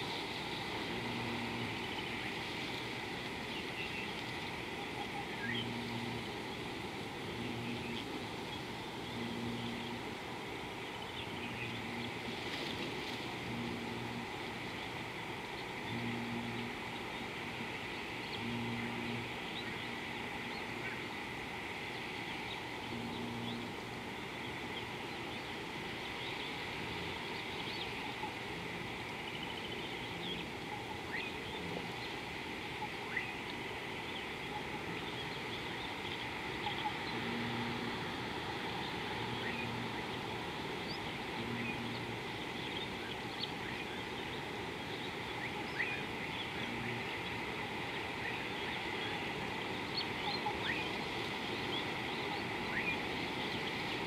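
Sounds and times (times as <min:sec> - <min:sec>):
low hum: 0:00.0 - 0:54.0
outdoor background hiss: 0:00.0 - 0:54.0
birds chirping: 0:00.1 - 0:54.0.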